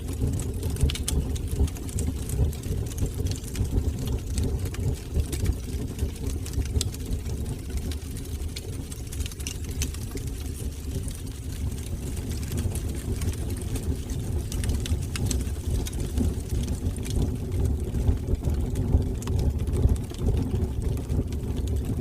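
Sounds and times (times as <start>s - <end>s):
fire crackling and popping: 0.0s - 22.0s
fire rumbling: 0.0s - 22.0s.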